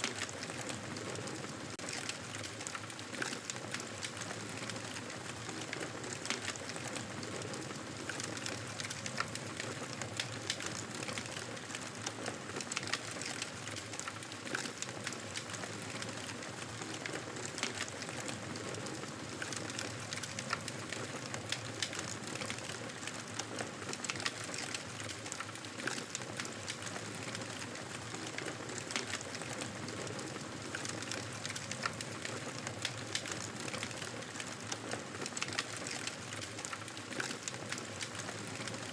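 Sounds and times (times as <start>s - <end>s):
campfire crackling and hissing: 0.0s - 38.9s.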